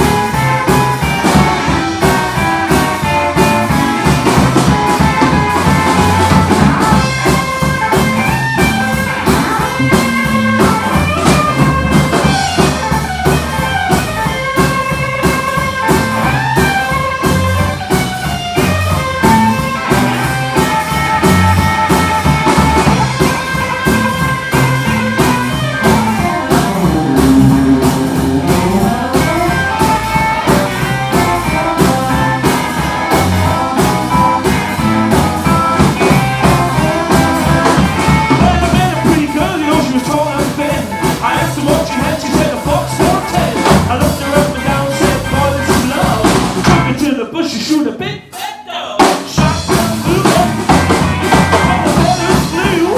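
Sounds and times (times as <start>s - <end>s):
lead guitar: 0.0s - 47.0s, 49.4s - 52.9s
drum kit driving beat: 0.0s - 52.9s.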